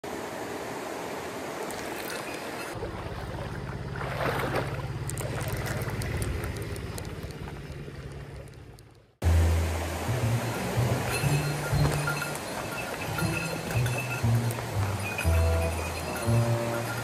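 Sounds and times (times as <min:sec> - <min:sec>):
stream water rushing over rocks: 0:00.0 - 0:07.2, 0:09.2 - 0:17.0.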